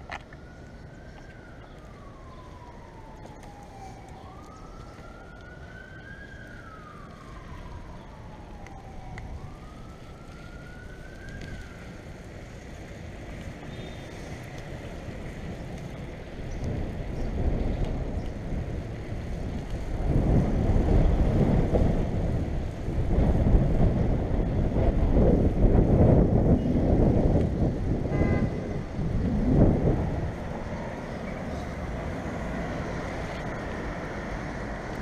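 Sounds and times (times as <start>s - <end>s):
emergency siren wailing: 0.0s - 35.0s
street noise: 0.0s - 35.0s.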